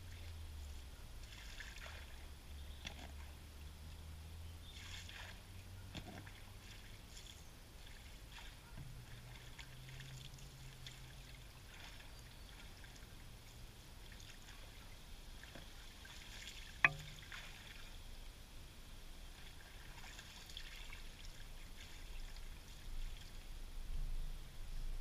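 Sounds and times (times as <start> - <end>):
magnet rope hauled through water: 0.0 - 18.1, 19.2 - 23.5.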